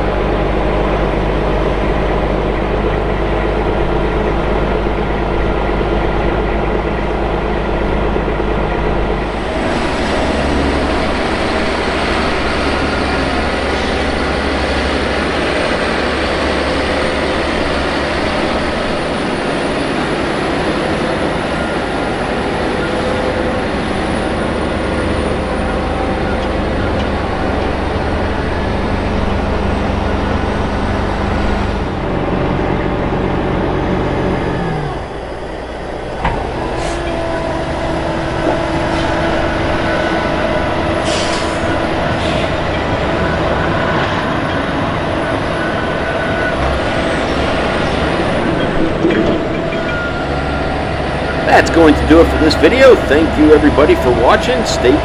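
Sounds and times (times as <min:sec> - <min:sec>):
diesel engine hum with whine: 0:00.0 - 0:55.0
tractor diesel engine under load: 0:00.0 - 0:55.0.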